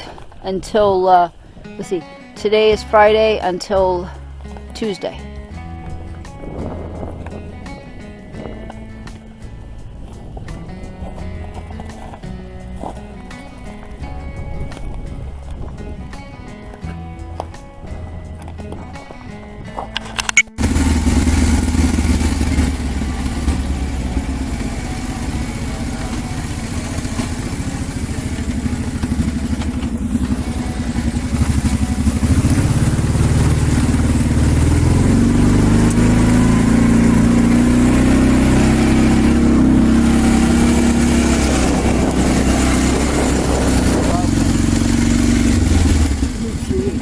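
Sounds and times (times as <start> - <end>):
vehicle engine running: 2.7 - 19.0, 19.7 - 47.0.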